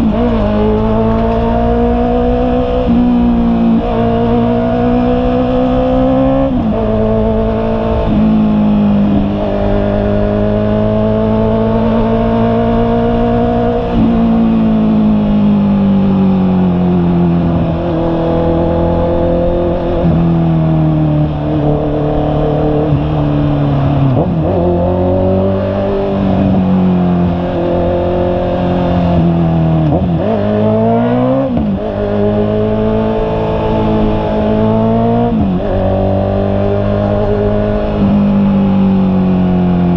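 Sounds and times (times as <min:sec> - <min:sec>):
motorcycle engine changing gears: 0:00.0 - 0:39.9.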